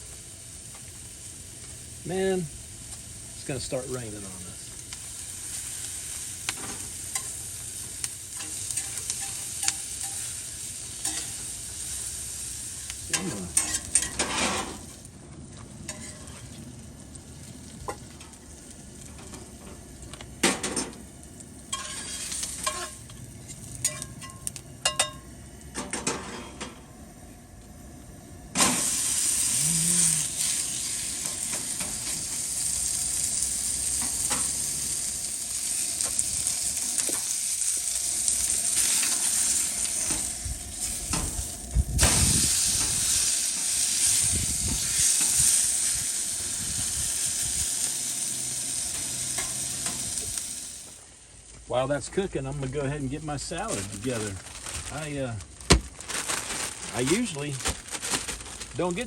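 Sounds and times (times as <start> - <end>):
steak sizzling in a skillet: 0.0 - 25.1, 28.6 - 51.5.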